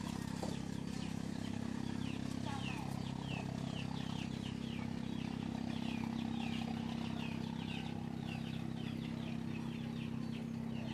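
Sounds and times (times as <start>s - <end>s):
birds chirping: 0.0s - 10.9s
low motor hum: 0.0s - 10.9s.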